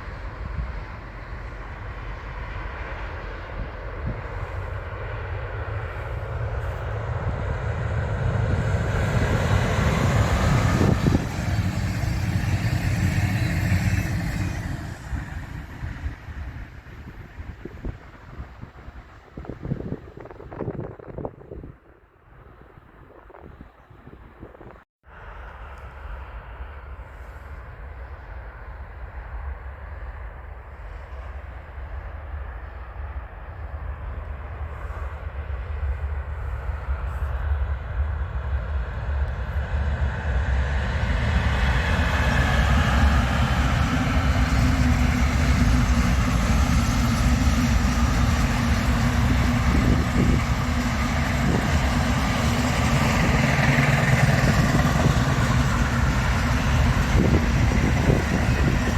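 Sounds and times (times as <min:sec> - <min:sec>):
train rumble and wheel noise: 0:00.0 - 0:58.9.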